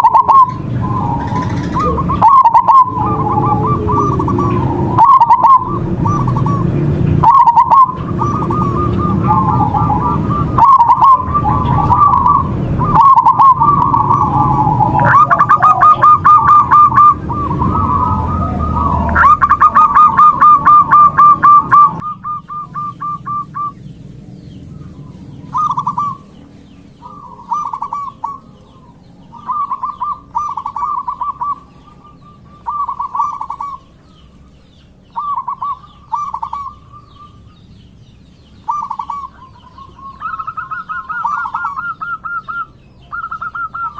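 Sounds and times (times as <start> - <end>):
doves cooing: 0.0 - 43.9.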